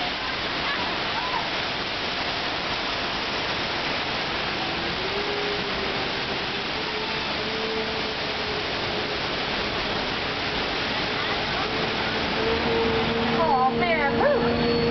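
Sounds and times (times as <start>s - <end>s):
water rushing down street: 0.0s - 14.9s.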